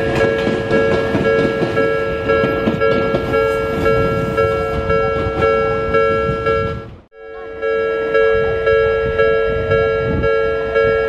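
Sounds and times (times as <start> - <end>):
level crossing bell ringing: 0.0 - 11.0
train rumble and wheel noise: 0.0 - 11.0.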